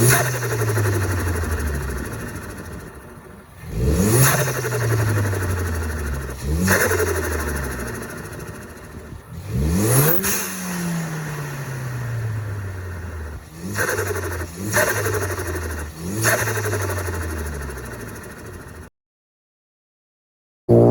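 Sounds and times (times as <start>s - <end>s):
car engine revving: 0.0s - 18.7s.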